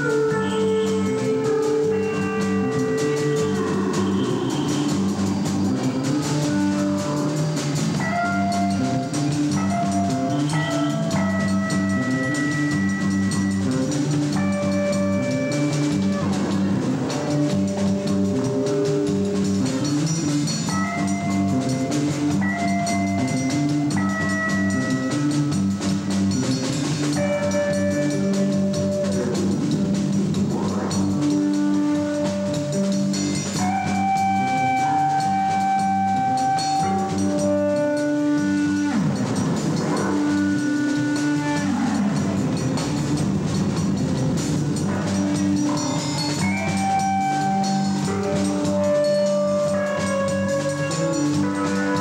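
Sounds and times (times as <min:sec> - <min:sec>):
drum kit: 0:00.0 - 0:52.0
electric bass: 0:00.0 - 0:52.0.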